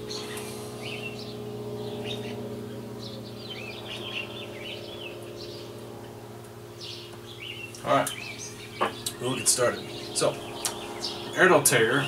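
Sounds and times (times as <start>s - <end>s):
small songbirds chirping: 0.0s - 12.0s
steady low hum: 0.0s - 12.0s.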